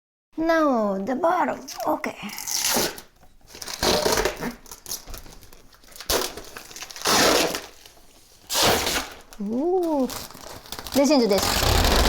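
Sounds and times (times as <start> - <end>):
plastic wrapping crinkling: 1.6 - 12.0.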